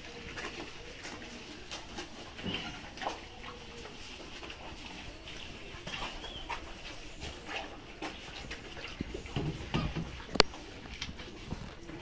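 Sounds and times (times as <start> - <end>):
cows chewing fodder: 0.0 - 12.0.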